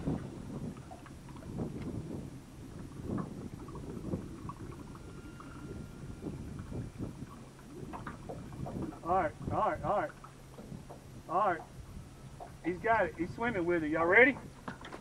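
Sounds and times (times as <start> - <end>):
waves lapping against boat hull: 0.0 - 15.0
wind buffeting microphone: 0.0 - 15.0.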